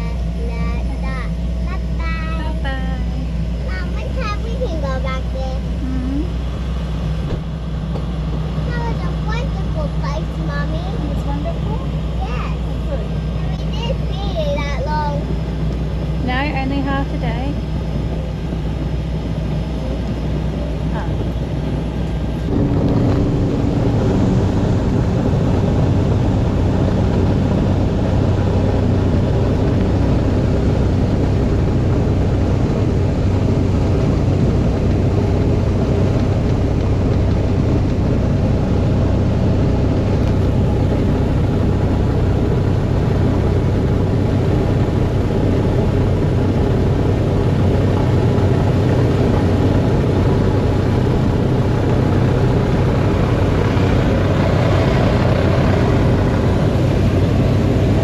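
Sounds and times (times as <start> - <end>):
seaplane engine running: 0.0 - 58.0.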